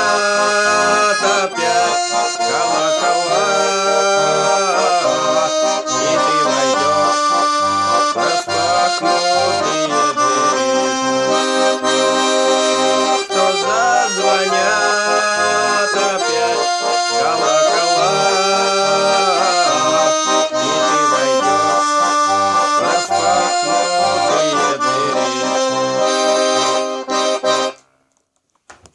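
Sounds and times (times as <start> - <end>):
button accordion playing: 0.0 - 27.8.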